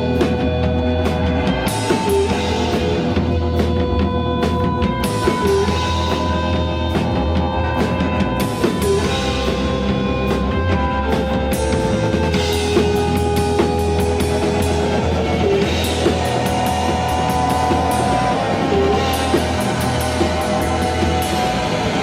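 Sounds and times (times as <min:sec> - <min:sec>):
drum kit with cymbal hits: 0:00.0 - 0:22.0
held guitar notes: 0:00.0 - 0:22.0
rock band playing: 0:00.0 - 0:22.0
steady bass line: 0:00.0 - 0:22.0.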